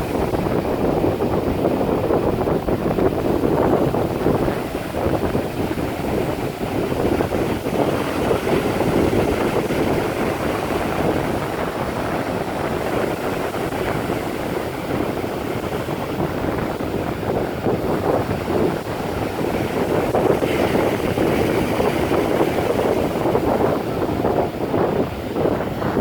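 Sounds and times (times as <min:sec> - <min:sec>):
ocean waves washing: 0:00.0 - 0:26.0
wind on microphone: 0:00.0 - 0:26.0.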